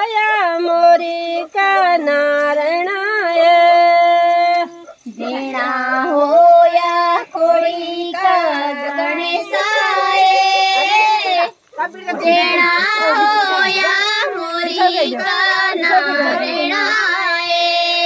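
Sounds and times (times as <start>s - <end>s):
women singing unaccompanied: 0.0s - 18.0s.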